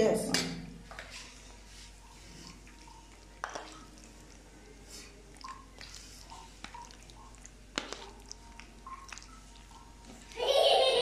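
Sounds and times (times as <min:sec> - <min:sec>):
wet squishing of macaroni: 0:00.3 - 0:11.0.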